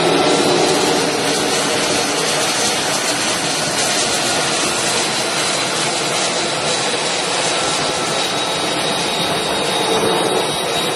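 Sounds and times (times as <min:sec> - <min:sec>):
jet engine with high whine: 0:00.0 - 0:10.9.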